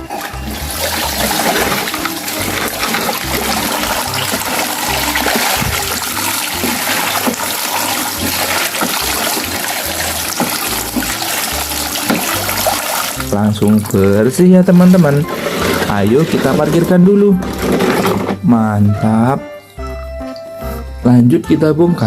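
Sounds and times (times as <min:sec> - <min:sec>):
water splashing over toy truck: 0:00.0 - 0:18.4.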